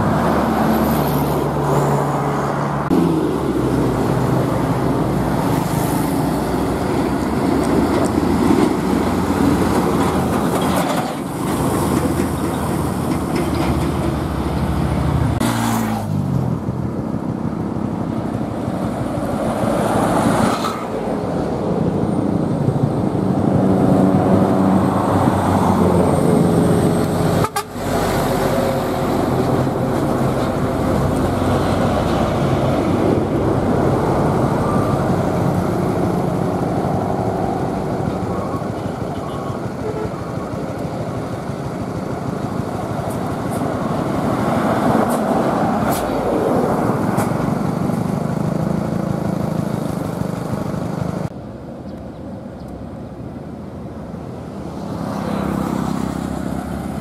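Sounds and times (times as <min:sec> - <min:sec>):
diesel trucks driving past: 0:00.0 - 0:57.0.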